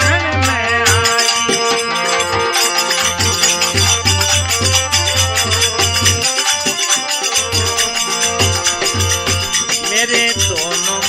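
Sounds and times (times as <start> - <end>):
rhythmic percussion: 0.0 - 11.0.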